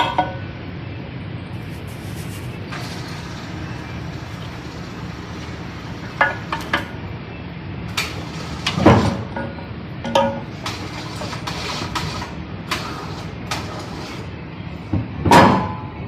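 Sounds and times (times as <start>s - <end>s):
workshop background noise: 1.4s - 16.0s.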